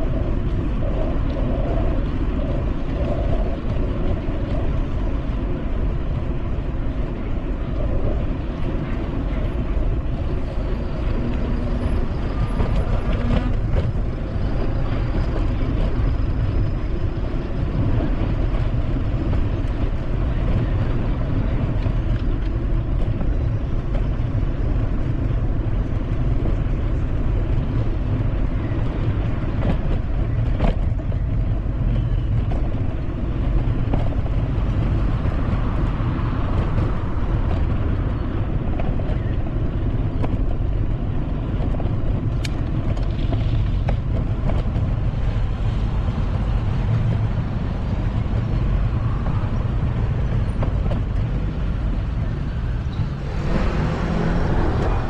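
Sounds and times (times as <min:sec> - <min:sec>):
road traffic: 0:00.0 - 0:55.0
wind on microphone: 0:00.0 - 0:55.0.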